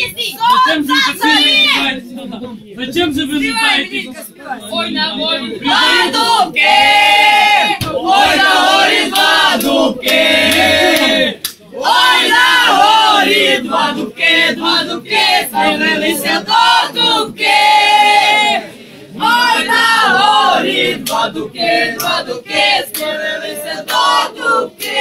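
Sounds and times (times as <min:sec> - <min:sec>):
group singing loudly: 0:05.0 - 0:25.0.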